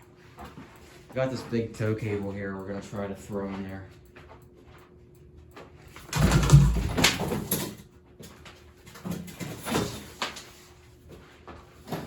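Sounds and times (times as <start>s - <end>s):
ceiling fan motor buzz: 0.0s - 12.0s.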